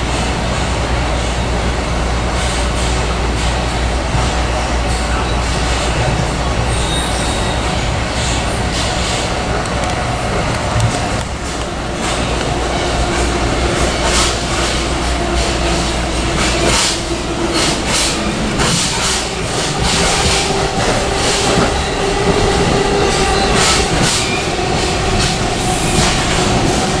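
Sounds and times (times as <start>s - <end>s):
train running on rails: 0.0s - 27.0s.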